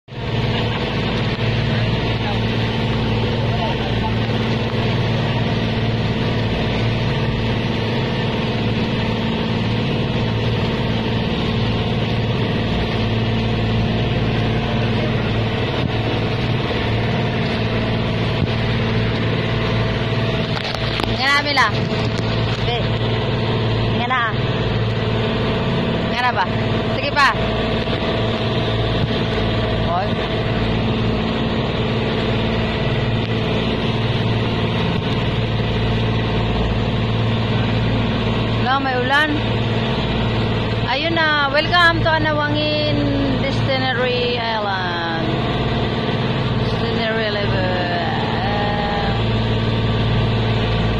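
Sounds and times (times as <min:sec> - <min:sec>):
boat engine droning: 0:00.0 - 0:50.9
choppy sea water: 0:00.0 - 0:50.9
wind: 0:00.0 - 0:50.9.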